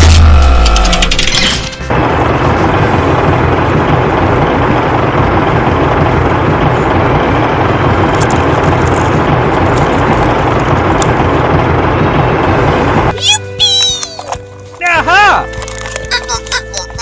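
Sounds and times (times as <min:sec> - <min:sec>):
vehicle engine rumble: 0:00.0 - 0:14.8.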